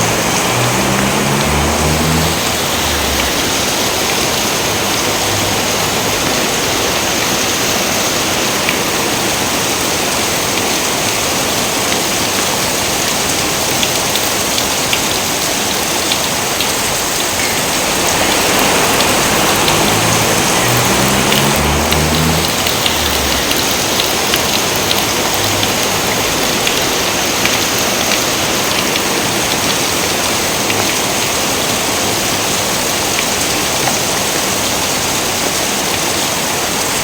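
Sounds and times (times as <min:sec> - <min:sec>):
heavy rain: 0:00.0 - 0:37.0
rain drops ticking: 0:00.0 - 0:37.0.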